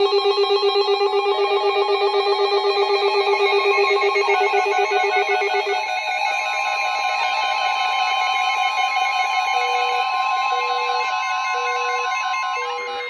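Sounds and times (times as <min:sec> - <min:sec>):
rapidly pulsing alarm beep: 0:00.0 - 0:13.0
steady high alarm tone: 0:00.0 - 0:13.0
electronic alarm tones: 0:02.4 - 0:13.0.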